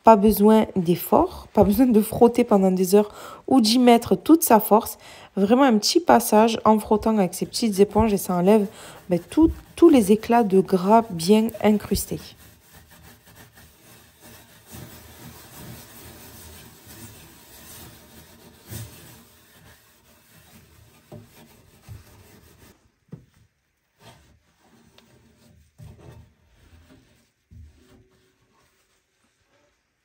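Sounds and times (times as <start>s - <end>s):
sponge scrubbing oven wall: 0.0s - 30.0s.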